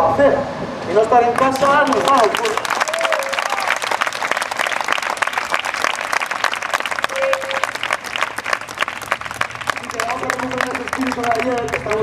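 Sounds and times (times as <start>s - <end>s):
crowd applauding: 1.3s - 12.0s.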